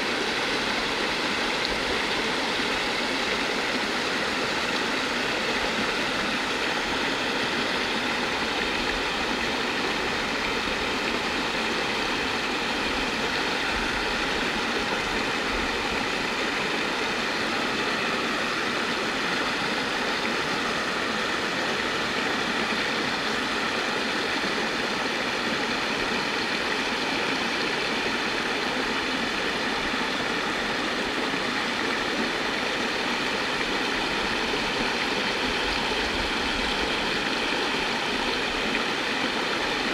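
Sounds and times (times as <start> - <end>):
creek water pouring over rocks: 0.0 - 39.9.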